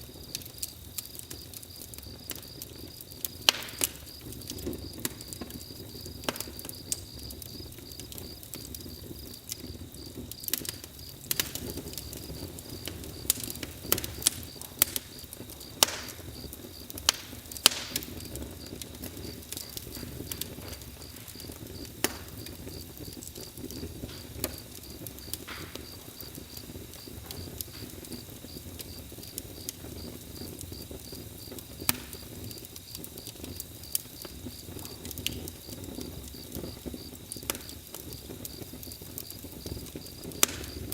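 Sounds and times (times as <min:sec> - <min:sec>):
bonfire crackling and popping: 0:00.0 - 0:40.9
crickets chirping: 0:00.0 - 0:40.9.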